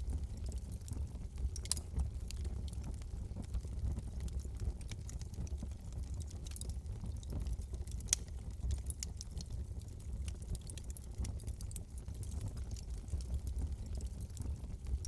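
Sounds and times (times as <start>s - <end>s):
fire crackling and popping: 0.0s - 15.0s
rumble of flames: 0.0s - 15.0s.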